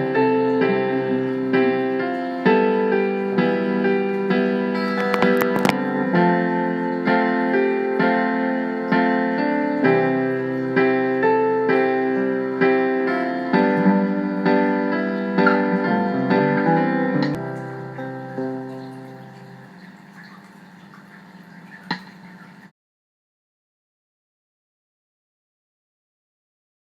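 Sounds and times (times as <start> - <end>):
electric piano chords with beat: 0.0 - 22.7.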